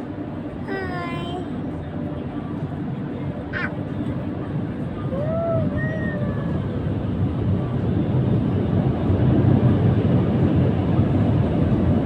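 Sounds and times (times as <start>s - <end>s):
car wash machinery roar: 0.0s - 12.0s.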